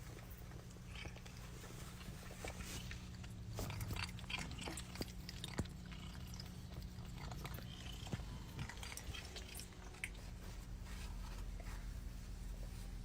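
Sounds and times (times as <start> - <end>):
pet chewing food: 0.0 - 12.1
low steady hum: 0.0 - 13.0.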